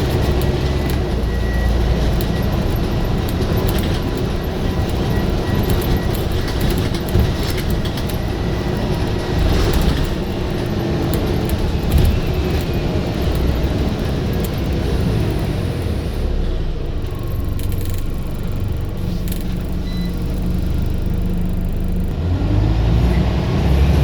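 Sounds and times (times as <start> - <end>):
rattles and clicks: 0.0 - 22.2
bus engine rumbling: 0.0 - 24.0.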